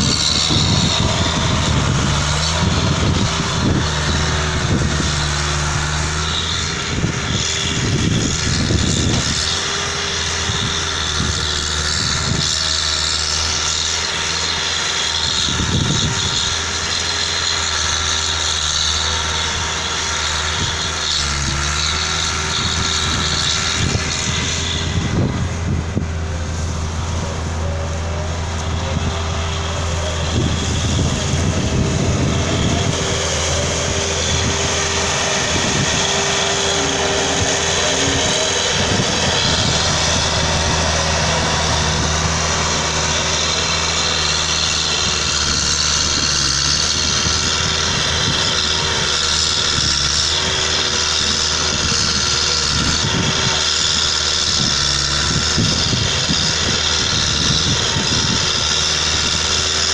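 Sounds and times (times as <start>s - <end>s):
loader engine running: 0.0s - 59.9s
steady machine whine: 0.0s - 59.9s.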